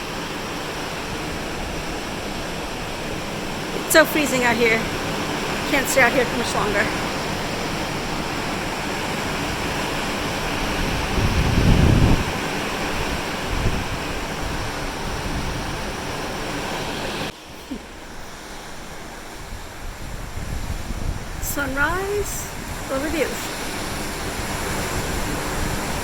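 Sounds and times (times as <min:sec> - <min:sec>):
wind buffeting microphone: 0:00.0 - 0:17.3, 0:17.9 - 0:26.0
sea waves rushing: 0:00.0 - 0:26.0.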